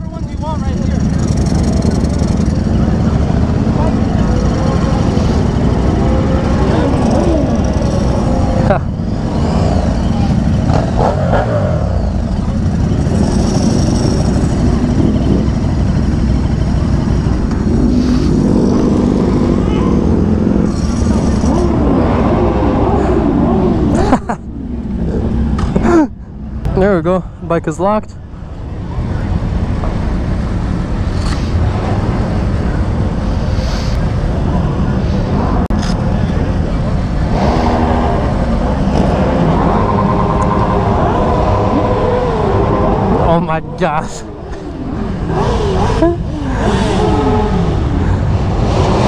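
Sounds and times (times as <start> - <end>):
motorcycle engines running: 0.0 - 49.0.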